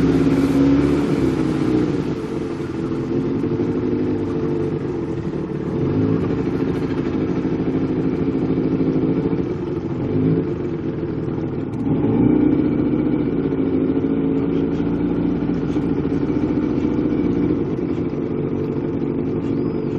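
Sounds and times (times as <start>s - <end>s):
motorboat engine running: 0.0s - 19.9s.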